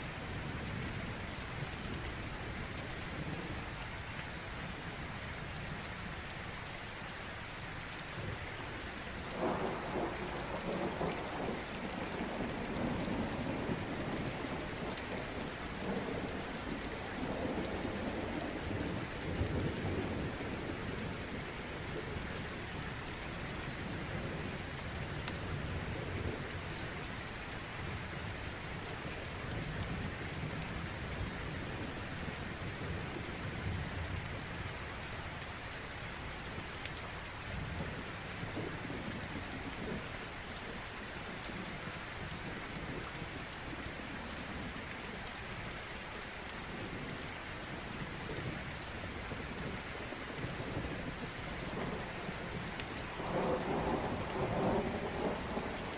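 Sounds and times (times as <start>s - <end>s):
heavy rain on a surface: 0.0s - 55.9s.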